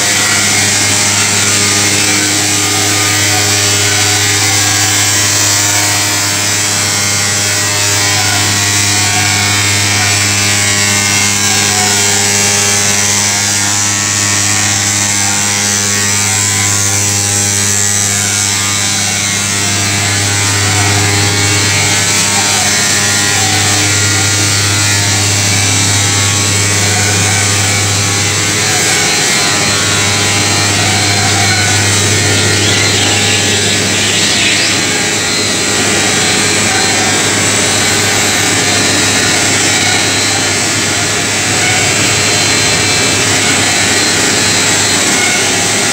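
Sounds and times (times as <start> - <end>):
drum dryer machine humming: 0.0 - 45.9.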